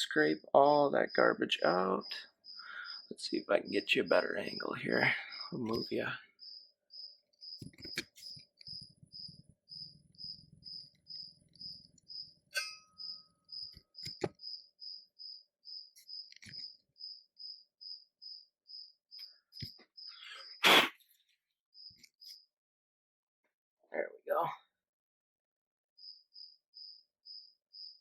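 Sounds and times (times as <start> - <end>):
cricket chirping: 0.0 - 20.6, 21.7 - 22.5, 26.0 - 28.0.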